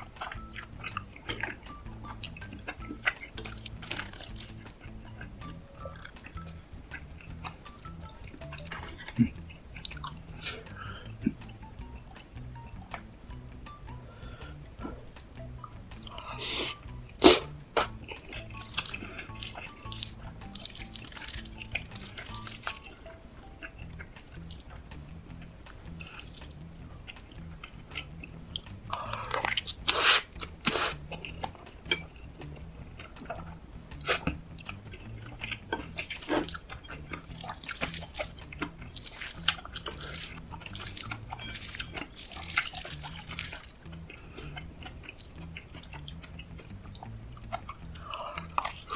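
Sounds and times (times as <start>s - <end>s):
moist chewing: 0.0s - 13.1s, 15.6s - 48.9s.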